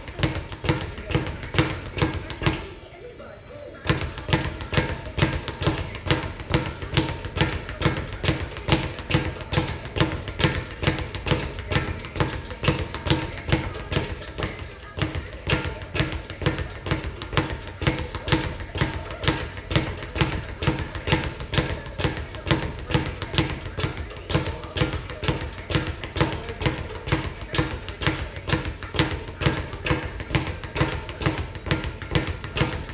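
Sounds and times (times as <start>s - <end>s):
speed bag being punched: 0.0s - 2.6s, 3.9s - 32.9s.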